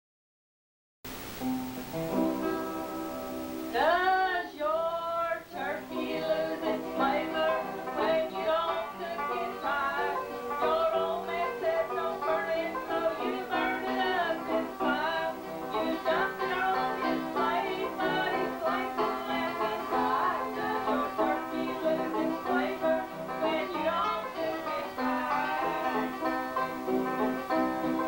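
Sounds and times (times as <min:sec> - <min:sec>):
acoustic guitar: 0:01.3 - 0:28.0
banjo: 0:01.7 - 0:28.0
person singing: 0:03.7 - 0:28.0.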